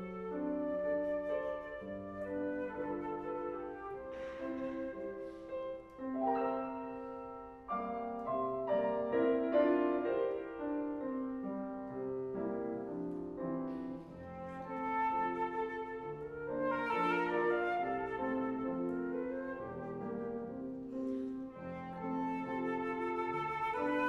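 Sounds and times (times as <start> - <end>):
flute: 0.0 - 24.0
grand piano: 0.0 - 24.0.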